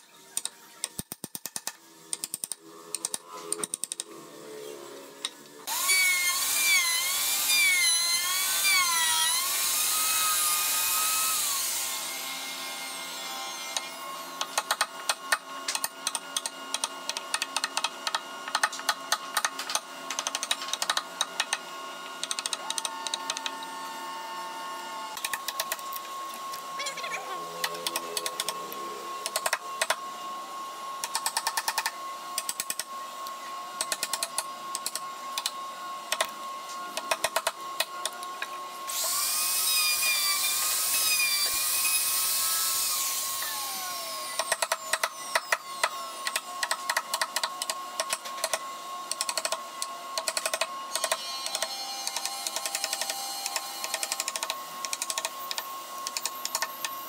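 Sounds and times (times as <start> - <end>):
electric router whine: 1.8 - 57.0.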